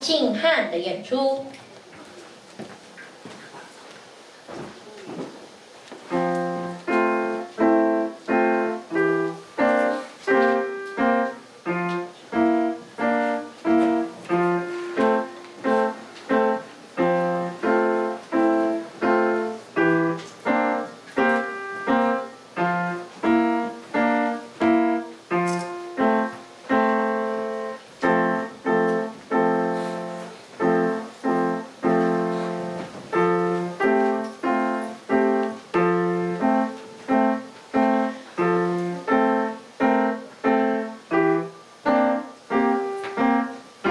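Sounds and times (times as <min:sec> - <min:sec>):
solo piano tune: 0:06.0 - 0:43.9.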